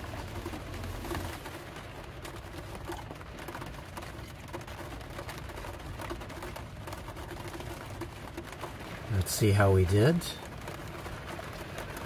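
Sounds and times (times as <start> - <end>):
rain on a metal roof: 0.0 - 12.0.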